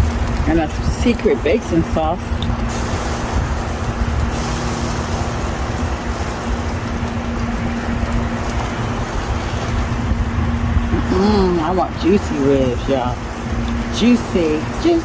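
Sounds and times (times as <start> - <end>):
steady low hum: 0.0 - 15.0
wind buffeting microphone: 0.0 - 15.0.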